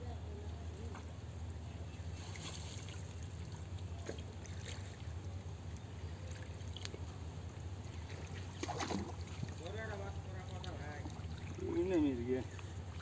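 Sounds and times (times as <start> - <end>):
steady low hum: 0.0 - 13.0
net hauled through water: 1.9 - 13.0
water trickling: 2.1 - 13.0
small splashes and clicks: 2.2 - 13.0.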